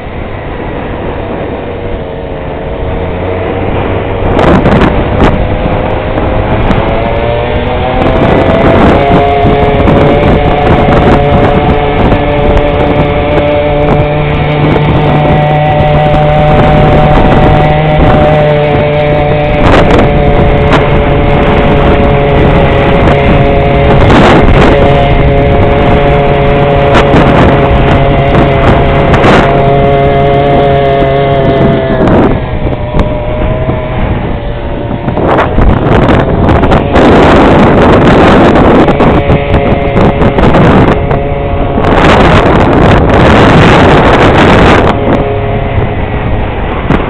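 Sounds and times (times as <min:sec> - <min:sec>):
scooter engine running: 0:00.0 - 0:47.0
wind on microphone: 0:00.0 - 0:47.0.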